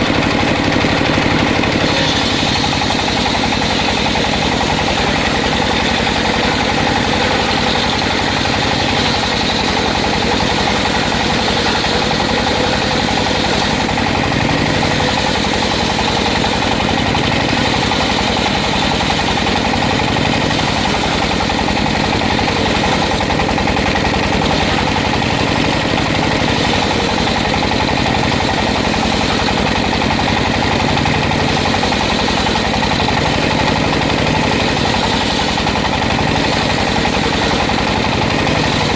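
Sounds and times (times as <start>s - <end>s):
engine-powered sawmill running: 0.0s - 38.9s.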